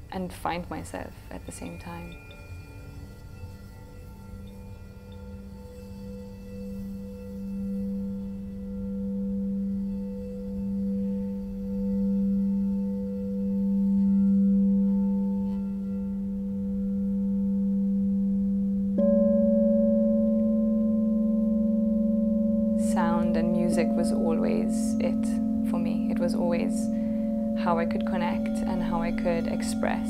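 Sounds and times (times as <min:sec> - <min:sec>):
singing bowl ringing: 0:00.7 - 0:30.0
higher singing bowl tone: 0:00.8 - 0:30.0.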